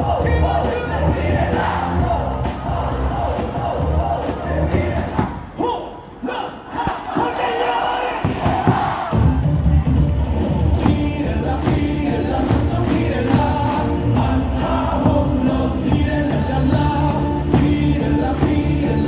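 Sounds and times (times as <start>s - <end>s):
crowd singing along: 0.0s - 9.5s, 10.2s - 19.0s
cheer song over stadium speakers: 0.0s - 19.0s.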